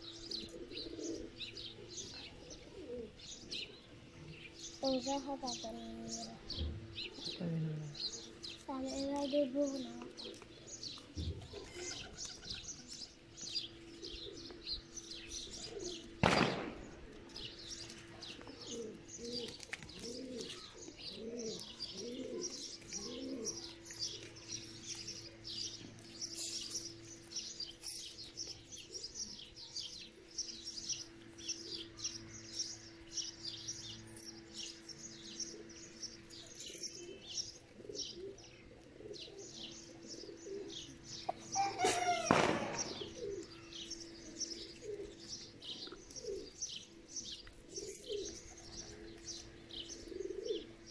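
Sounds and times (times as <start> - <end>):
pigeons cooing: 0.0 - 50.9
small birds chirping: 0.0 - 50.9.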